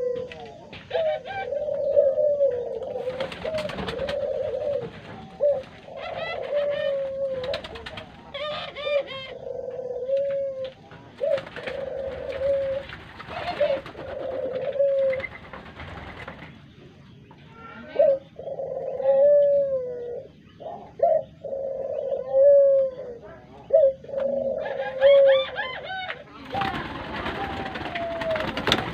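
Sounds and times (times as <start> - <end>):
doves cooing: 0.0 - 28.9.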